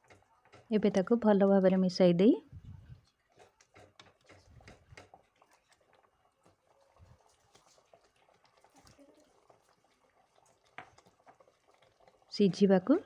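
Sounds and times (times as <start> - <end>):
small clicks and taps from pan: 0.0 - 2.3, 2.9 - 12.7.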